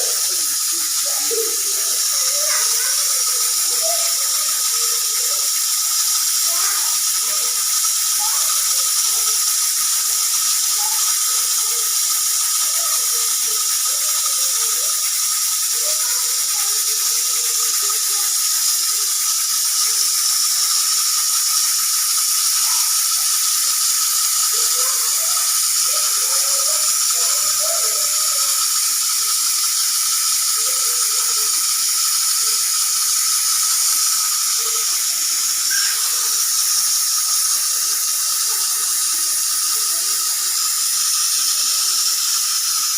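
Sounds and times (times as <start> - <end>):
pressure cooker hissing: 0.0 - 42.9.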